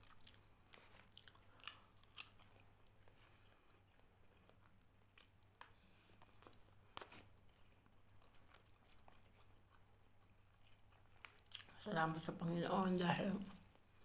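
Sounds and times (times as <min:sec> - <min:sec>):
person chewing: 0:00.0 - 0:11.8.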